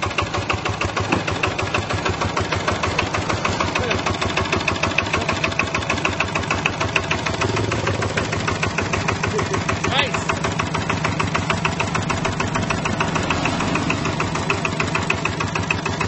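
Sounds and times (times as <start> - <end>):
diesel engine idling with knocking: 0.0 - 16.0.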